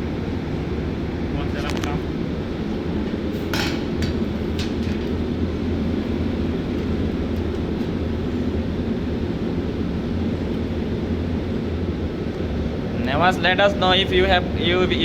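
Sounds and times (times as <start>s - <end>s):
shipboard machinery hum: 0.0s - 15.0s.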